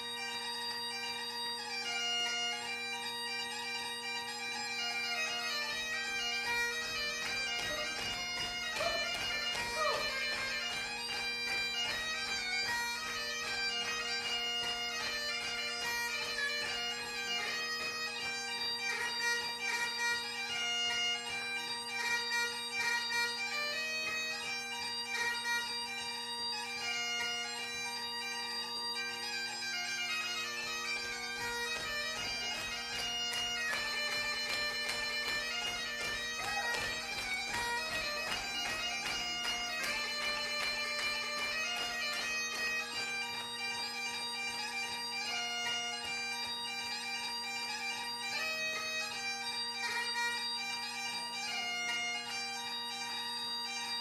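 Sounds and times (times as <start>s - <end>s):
bagpipes playing a tune: 0.0s - 54.0s.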